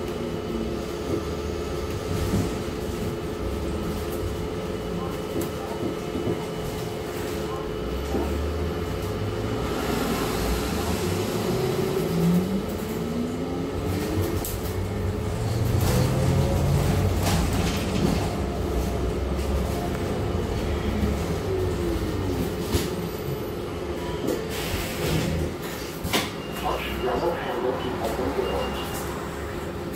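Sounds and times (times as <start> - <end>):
bus engine and road rumble: 0.0 - 29.9.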